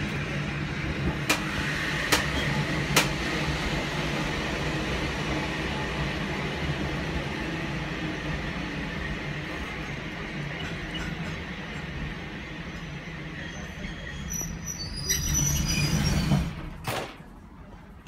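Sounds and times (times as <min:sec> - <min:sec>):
tram rumble with low hum: 0:00.0 - 0:18.0.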